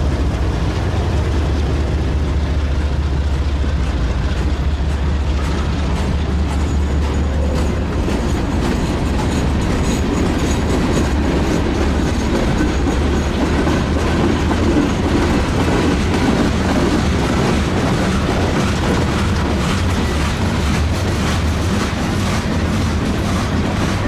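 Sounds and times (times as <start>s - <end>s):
freight train cars rolling: 0.0s - 24.0s
wheels clicking over rail joints: 0.0s - 24.0s.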